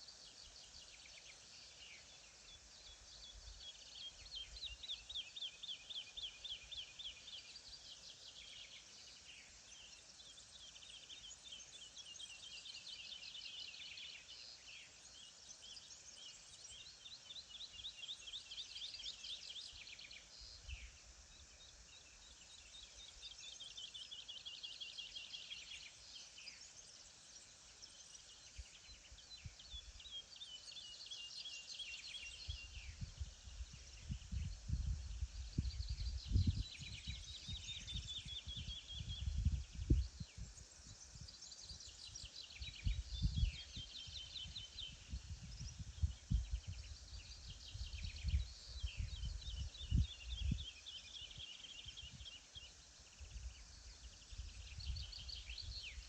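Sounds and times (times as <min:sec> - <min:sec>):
faint steady hiss: 0:00.0 - 0:56.0
songbirds singing: 0:00.0 - 0:56.0.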